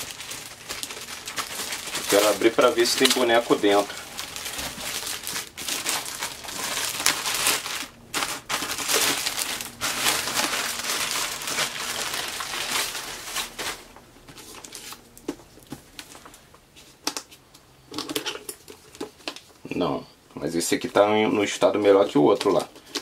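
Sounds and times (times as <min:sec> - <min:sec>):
plastic bag crinkling: 0:00.0 - 0:19.7, 0:20.6 - 0:23.0.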